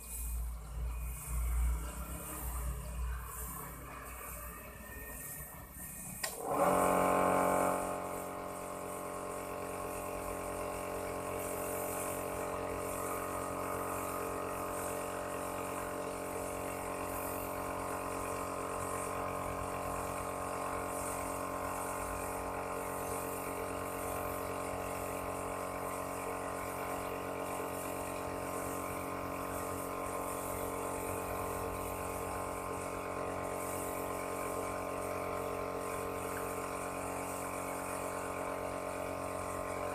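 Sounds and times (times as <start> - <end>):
small electric motor running: 0.0 - 39.9.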